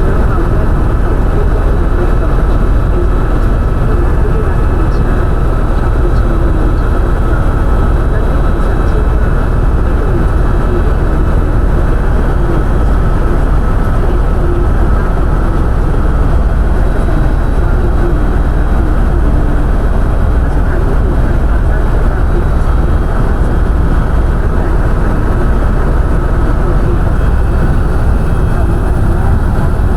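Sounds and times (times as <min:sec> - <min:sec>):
helicopter engine and rotor drone: 0:00.0 - 0:29.9.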